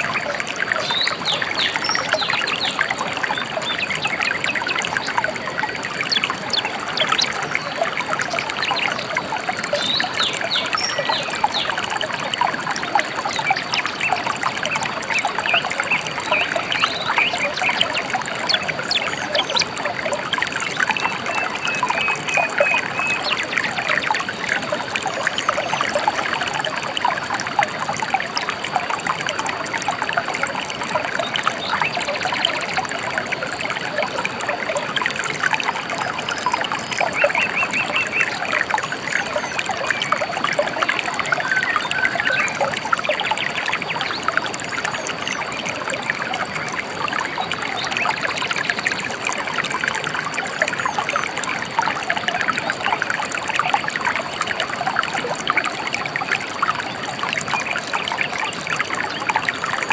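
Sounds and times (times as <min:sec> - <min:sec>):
river trickling: 0:00.0 - 0:59.9.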